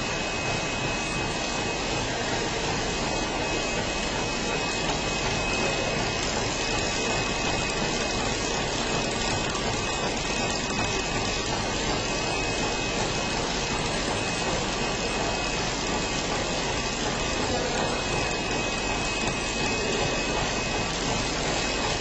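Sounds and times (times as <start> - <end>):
laminating machine running: 0.0 - 22.0.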